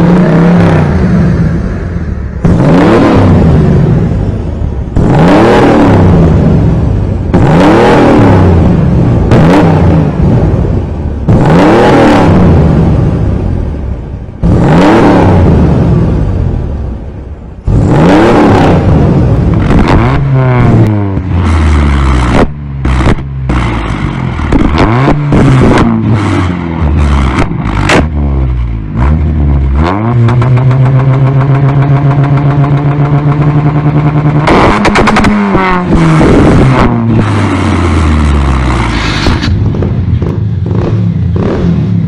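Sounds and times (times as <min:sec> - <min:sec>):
engine stuttering on rev limiter: 0:00.0 - 0:04.2, 0:04.9 - 0:13.1, 0:17.7 - 0:42.0
petrol engine revving: 0:00.0 - 0:13.8, 0:14.4 - 0:16.9, 0:17.6 - 0:42.0
exhaust bangs: 0:00.0 - 0:42.0.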